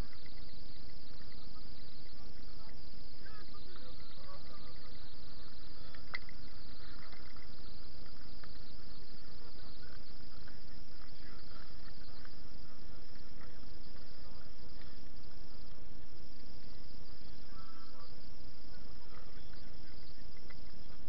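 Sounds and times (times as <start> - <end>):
faint steady hum: 0.0 - 21.0
faint ticks: 0.0 - 21.0
steady hiss: 0.0 - 21.0.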